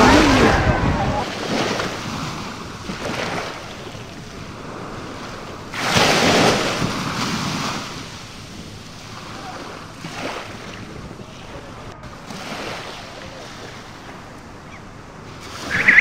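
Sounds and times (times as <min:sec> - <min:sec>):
sea water splashing: 0:00.0 - 0:16.0
wind buffeting microphone: 0:00.0 - 0:16.0.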